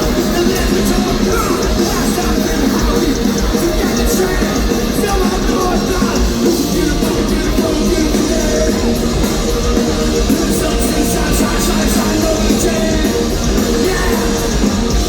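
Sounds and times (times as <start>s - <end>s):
punk rock band playing: 0.0s - 15.0s
shouted vocals: 0.0s - 15.0s.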